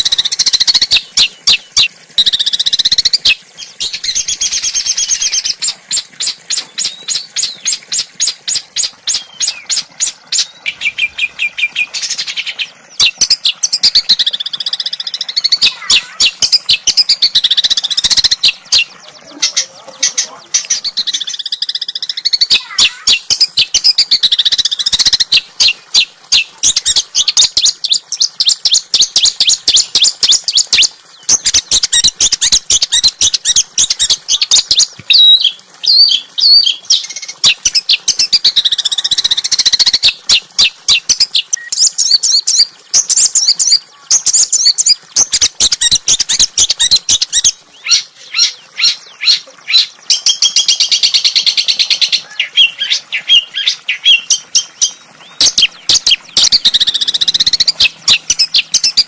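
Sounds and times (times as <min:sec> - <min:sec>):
songbird chattering and trilling: 0:00.0 - 0:59.0.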